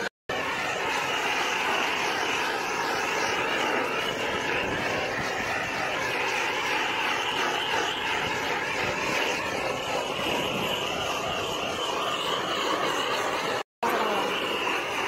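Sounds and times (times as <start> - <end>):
gas torch burning: 0.0 - 15.0.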